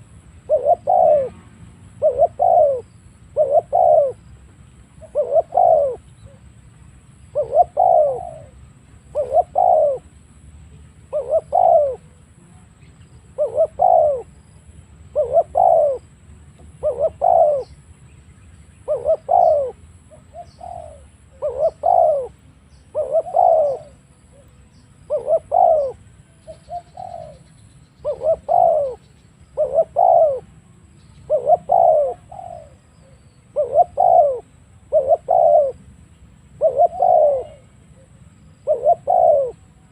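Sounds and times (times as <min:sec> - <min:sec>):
dove cooing: 0:00.0 - 0:06.6, 0:07.2 - 0:10.3, 0:11.0 - 0:17.9, 0:18.7 - 0:39.9.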